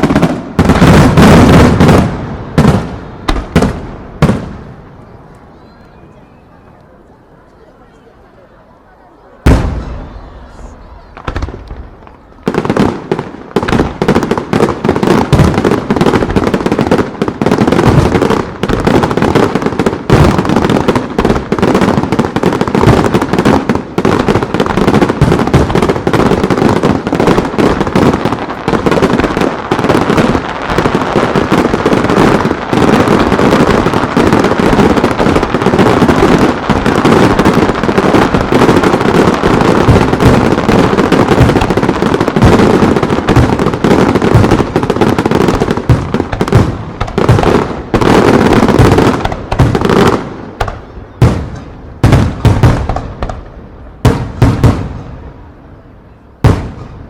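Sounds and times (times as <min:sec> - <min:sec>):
fireworks booms and crackles: 0:00.0 - 0:06.7, 0:09.2 - 0:57.0.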